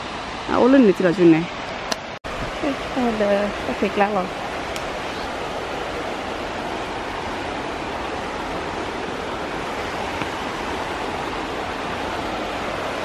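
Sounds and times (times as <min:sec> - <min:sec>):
falling water roar: 0:00.0 - 0:13.0.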